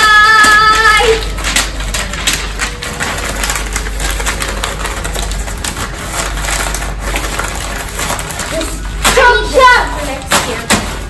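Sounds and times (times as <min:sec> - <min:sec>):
paper crumpling and tearing: 0:00.0 - 0:11.0.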